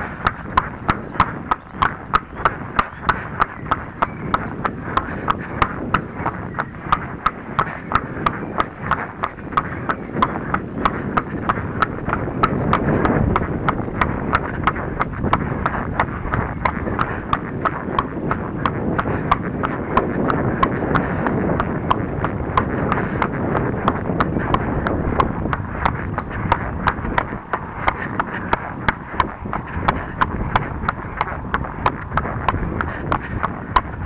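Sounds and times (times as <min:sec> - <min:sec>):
horse hooves on tarmac: 0:00.0 - 0:34.0.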